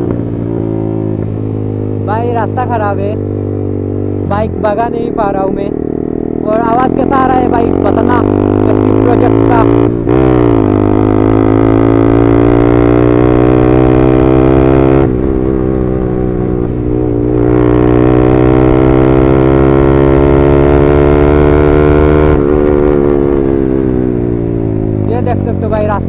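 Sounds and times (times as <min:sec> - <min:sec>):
motorcycle engine droning: 0:00.0 - 0:26.0.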